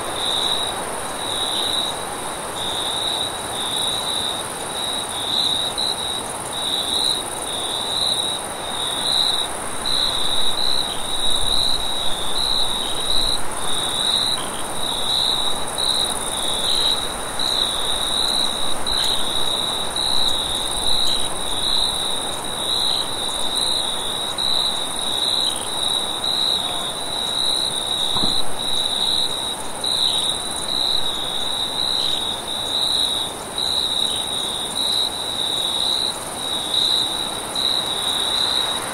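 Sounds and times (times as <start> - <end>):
crickets chirping: 0.0 - 38.9
high insect hiss: 0.0 - 38.9.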